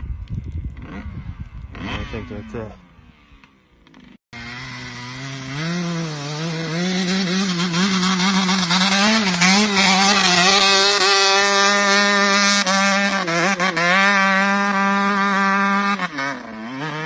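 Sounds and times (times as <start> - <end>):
dirt bike engine revving: 0.7 - 17.0.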